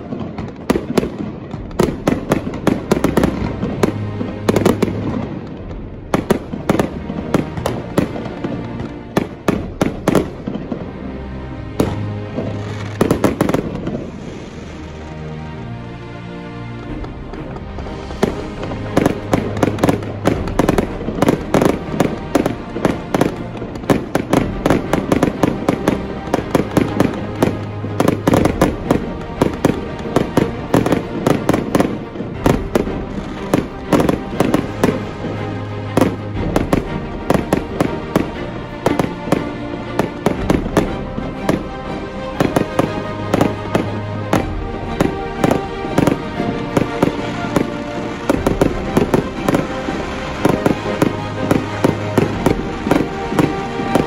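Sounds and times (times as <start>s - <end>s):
fireworks bangs and crackles: 0.0s - 15.6s, 16.8s - 54.0s
background music: 0.0s - 54.0s.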